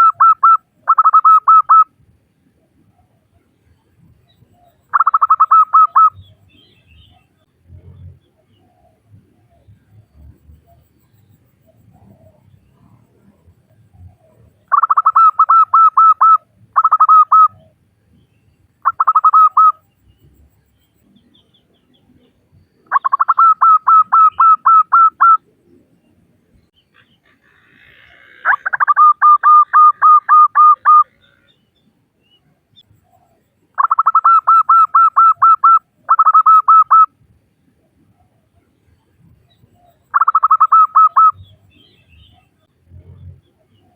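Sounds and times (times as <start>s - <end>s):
dove calling in clipped notes: 0.0s - 2.0s, 2.6s - 7.5s, 8.3s - 17.8s, 18.8s - 20.4s, 21.2s - 25.8s, 26.9s - 31.6s, 32.3s - 37.2s, 37.9s - 43.9s.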